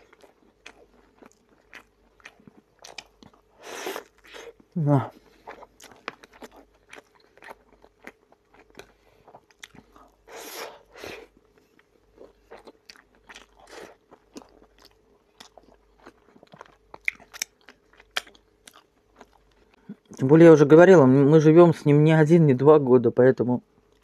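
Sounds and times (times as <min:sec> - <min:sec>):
person crunching and chewing bread: 0:00.0 - 0:20.3.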